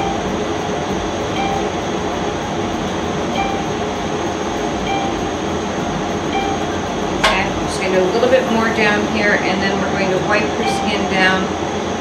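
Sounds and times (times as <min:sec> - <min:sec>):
machine cooling fan whirring: 0:00.0 - 0:12.0.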